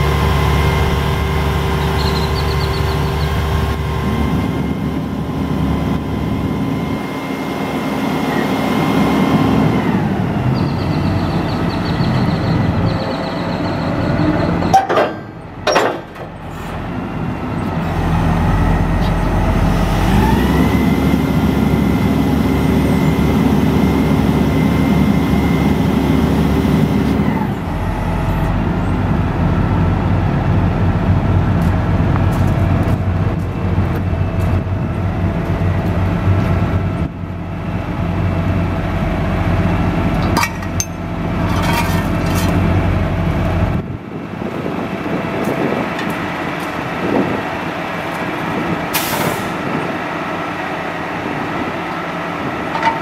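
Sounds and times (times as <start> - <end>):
diesel truck engine: 0.0 - 53.0.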